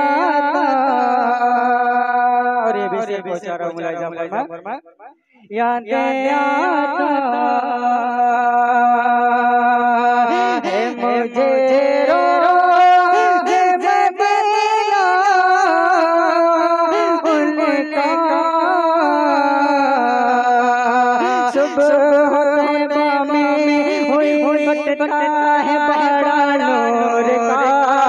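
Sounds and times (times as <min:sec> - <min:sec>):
man singing unaccompanied: 0:00.0 - 0:04.7, 0:05.5 - 0:28.0.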